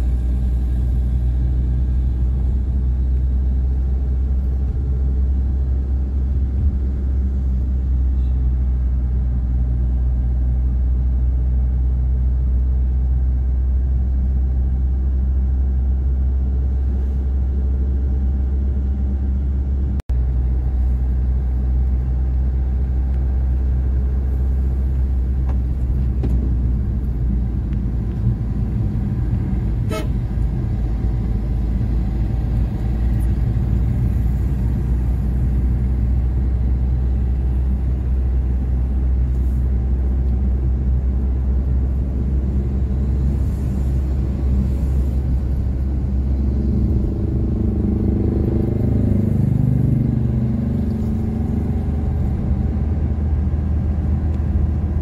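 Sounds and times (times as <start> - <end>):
vehicle interior rumble: 0.0 - 55.0.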